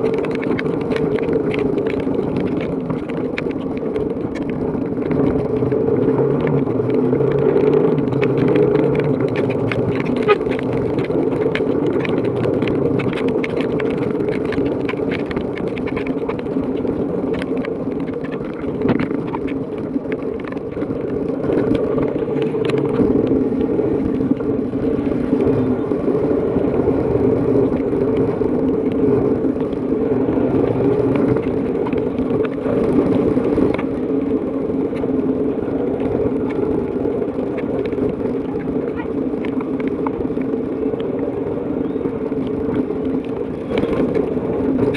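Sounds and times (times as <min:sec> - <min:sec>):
rain pattering on microphone: 0:00.0 - 0:44.9.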